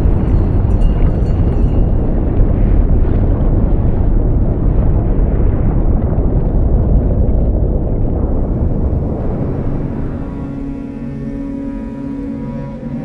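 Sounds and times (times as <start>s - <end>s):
volcano rumbling: 0.0s - 13.0s.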